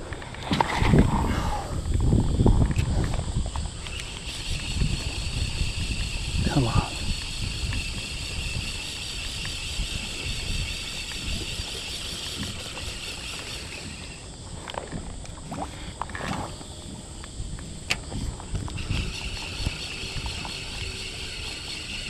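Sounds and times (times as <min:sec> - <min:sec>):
water moving around kayak: 0:00.0 - 0:22.0
wind rumbling on microphone: 0:00.0 - 0:22.0.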